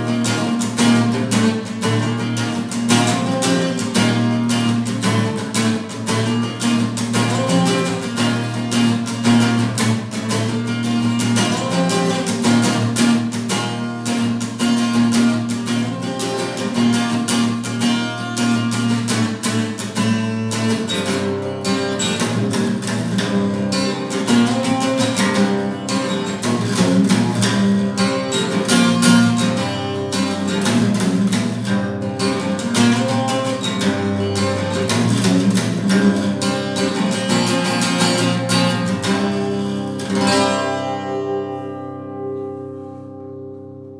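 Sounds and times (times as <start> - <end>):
acoustic guitar strumming chords: 0.0 - 43.9.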